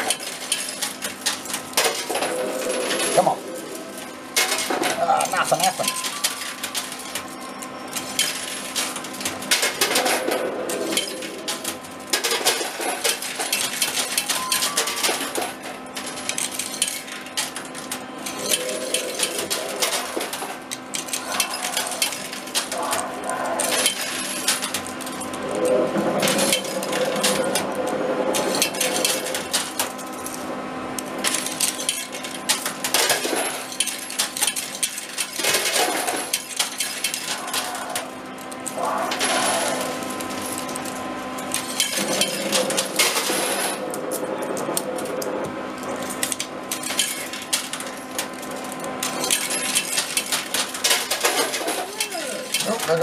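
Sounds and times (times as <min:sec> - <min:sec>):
coins clinking and clattering: 0:00.0 - 0:25.4, 0:31.2 - 0:44.3, 0:45.8 - 0:53.0
arcade machine hum: 0:00.0 - 0:53.0.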